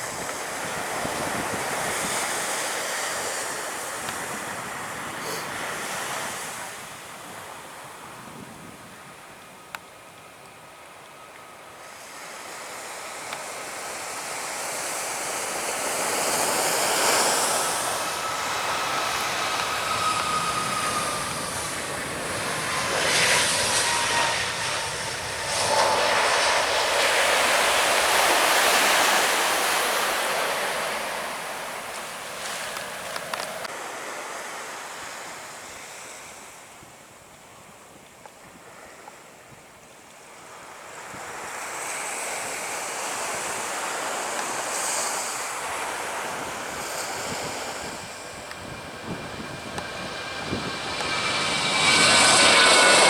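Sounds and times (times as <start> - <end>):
surf hissing: 0.0 - 8.0, 11.8 - 36.6, 40.6 - 53.0
jet airliner passing overhead: 0.0 - 34.7, 40.7 - 53.0.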